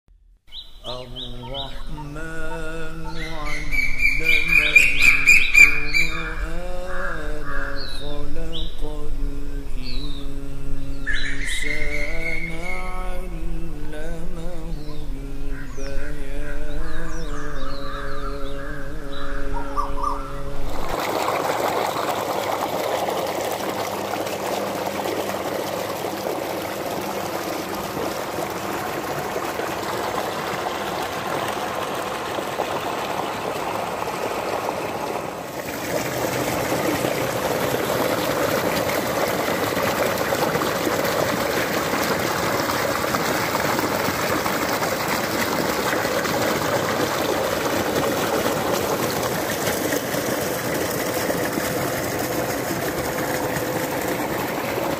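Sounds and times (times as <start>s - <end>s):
water gushing into a tank: 0.9s - 54.9s.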